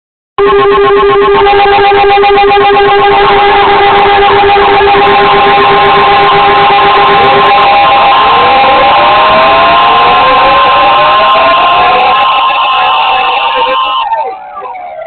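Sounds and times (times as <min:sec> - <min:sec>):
radio static: 0:00.4 - 0:14.9
high warning alarm tone: 0:00.4 - 0:15.0
steady electronic tones: 0:00.4 - 0:15.0.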